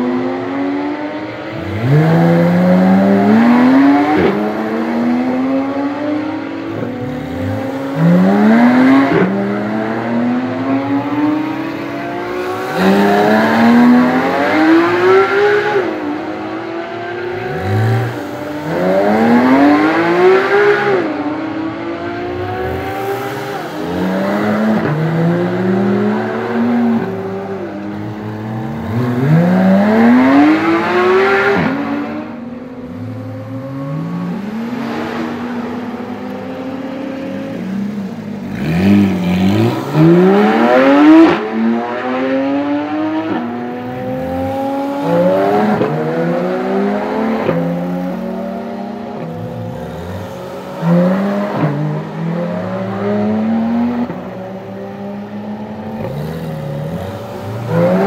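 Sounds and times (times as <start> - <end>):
sports cars accelerating through gears: 0.0 - 58.0.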